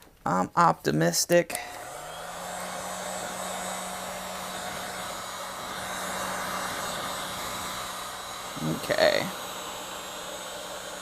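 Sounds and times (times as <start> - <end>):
heat gun blowing air: 1.5 - 11.0
low motor hum: 1.7 - 11.0.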